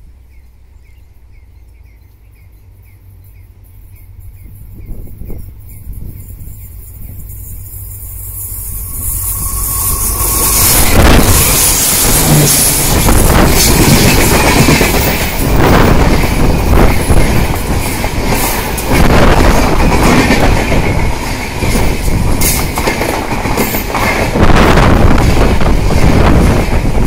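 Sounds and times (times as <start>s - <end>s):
train wheels clattering on rails: 2.9s - 27.0s.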